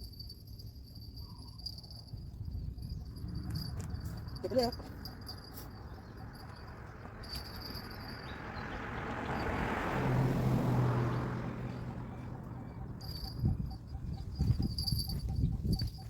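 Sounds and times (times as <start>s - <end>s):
motor vehicle passing: 3.0s - 15.9s.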